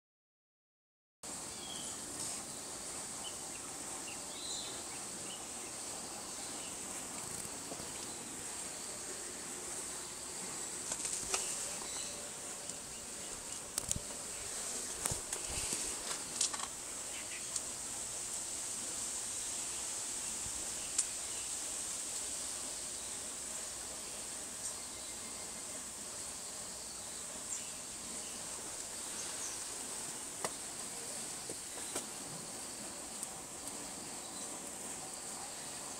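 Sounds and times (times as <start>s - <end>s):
insect hiss: 1.2s - 35.9s.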